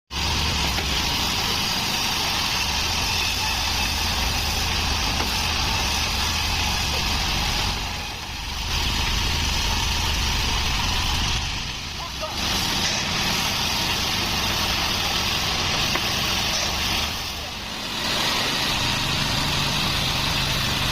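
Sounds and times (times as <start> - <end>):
sawmill machine drone: 0.1 - 20.9.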